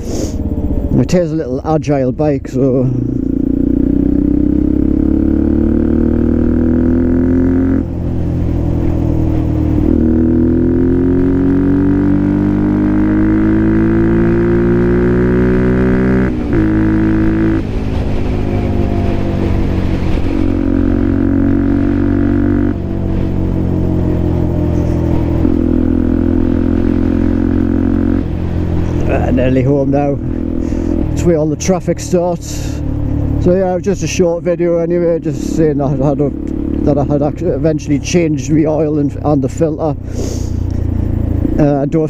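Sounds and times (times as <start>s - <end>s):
motorcycle engine accelerating: 2.5s - 42.0s.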